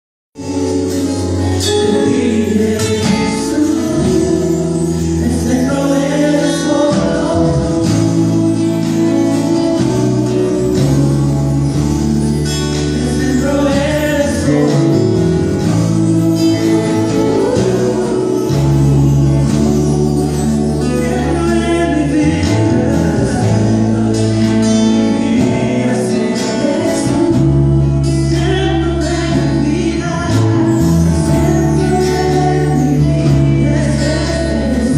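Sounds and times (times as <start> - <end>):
bass line: 0.4 - 34.9
live band playing: 0.4 - 34.9
person singing: 0.4 - 34.9.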